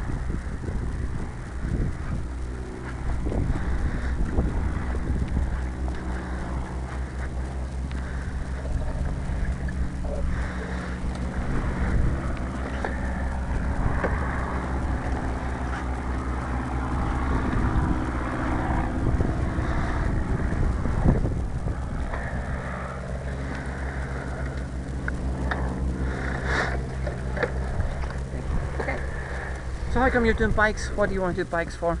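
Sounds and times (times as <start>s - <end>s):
motorcycle engine idling: 0.0s - 32.0s
wind noise on microphone: 0.0s - 32.0s
faint clicks: 0.3s - 29.9s.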